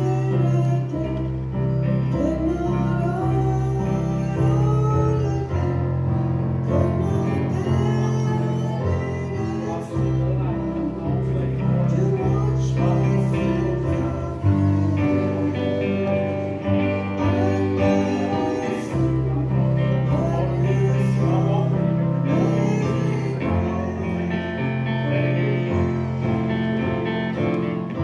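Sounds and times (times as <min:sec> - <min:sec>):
instrumental accompaniment with bass: 0:00.0 - 0:28.0
person singing: 0:00.0 - 0:28.0.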